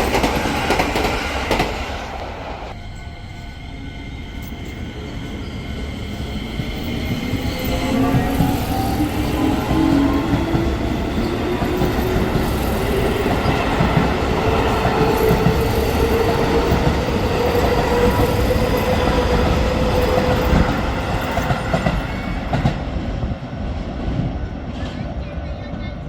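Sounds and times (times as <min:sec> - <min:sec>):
electric train whine: 0:00.0 - 0:24.3
train wheel-on-rail noise: 0:00.0 - 0:26.0.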